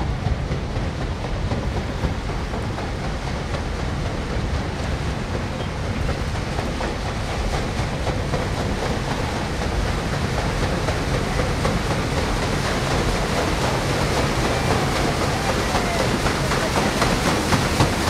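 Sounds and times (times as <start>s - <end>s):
paddle wheels churning water: 0.0s - 18.0s.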